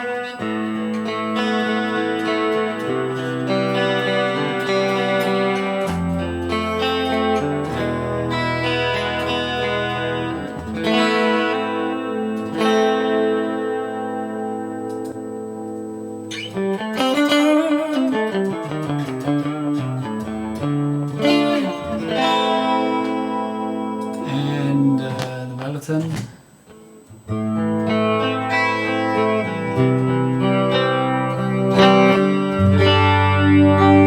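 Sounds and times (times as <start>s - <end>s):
electric guitar playing: 0.0s - 34.0s.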